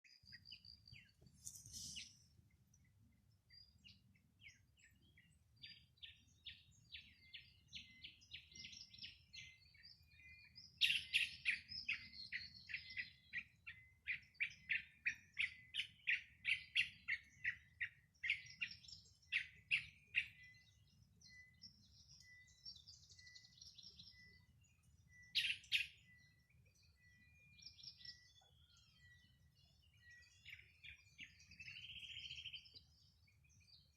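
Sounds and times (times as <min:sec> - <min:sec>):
birds singing and chirping: 0:00.0 - 0:33.9.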